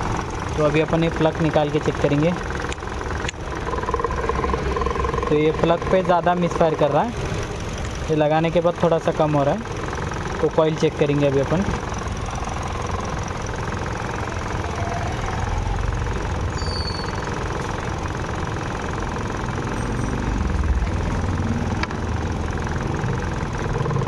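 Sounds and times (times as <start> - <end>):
misfiring car engine idling: 0.0 - 24.0.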